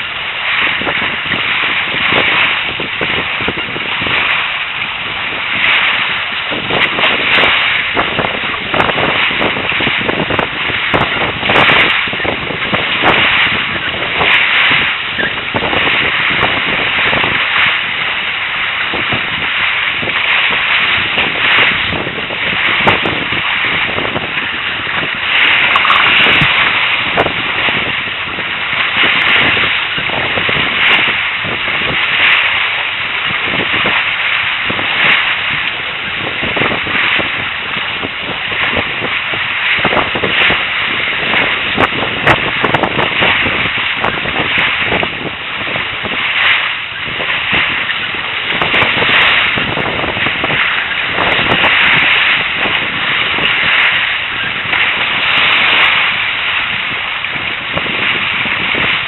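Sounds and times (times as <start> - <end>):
sea water rushing and splashing: 0.0 - 59.0
wind buffeting microphone: 0.0 - 59.0.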